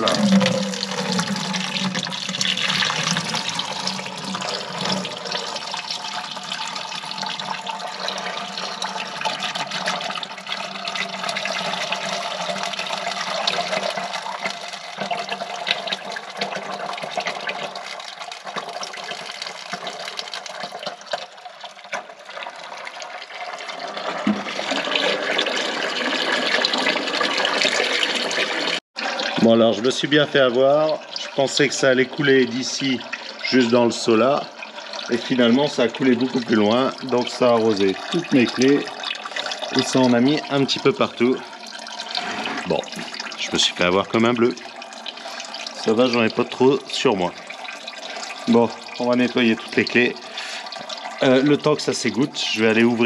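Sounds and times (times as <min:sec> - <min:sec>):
oil pouring and splashing into bucket: 0:00.0 - 0:53.0.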